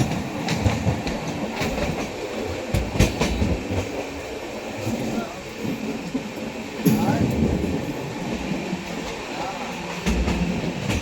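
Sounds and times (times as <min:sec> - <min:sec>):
train rumbling on track: 0:00.0 - 0:11.0
wheels clacking over rail joints: 0:00.0 - 0:11.0.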